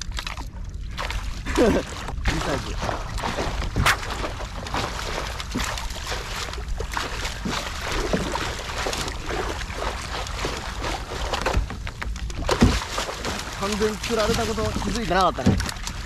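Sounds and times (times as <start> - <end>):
fish thrashing and splashing water: 0.0 - 16.0.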